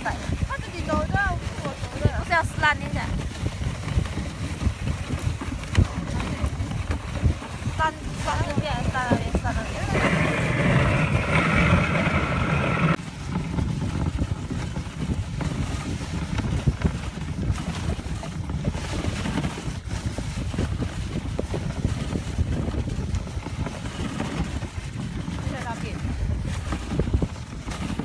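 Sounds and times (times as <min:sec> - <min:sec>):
sled runners on packed snow: 0:00.0 - 0:28.0
wind buffeting microphone: 0:00.0 - 0:28.0.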